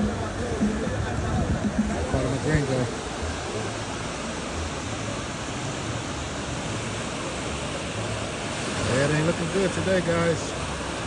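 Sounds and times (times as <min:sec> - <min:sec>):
ocean surf: 0:00.0 - 0:11.0
wind: 0:00.0 - 0:11.0.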